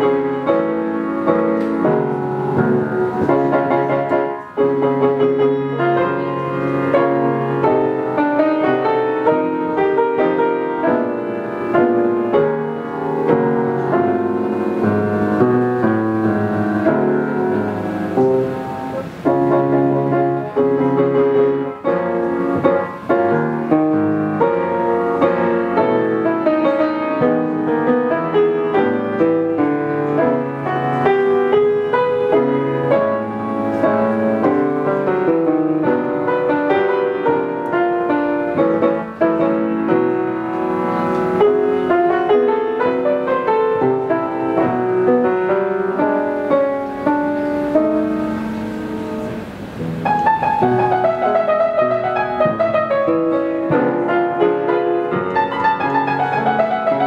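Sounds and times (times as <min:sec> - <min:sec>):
solo piano piece: 0:00.0 - 0:57.0.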